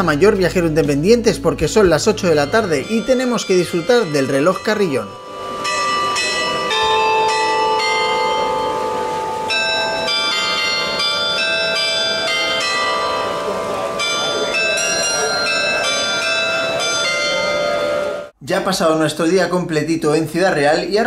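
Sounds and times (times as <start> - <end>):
carillon bells playing tune: 0.0 - 18.4.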